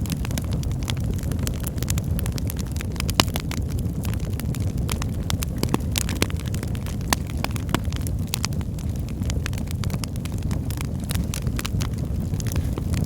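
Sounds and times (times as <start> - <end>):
burning wood crackling and popping: 0.0 - 13.0
low rumble of flames: 0.0 - 13.0.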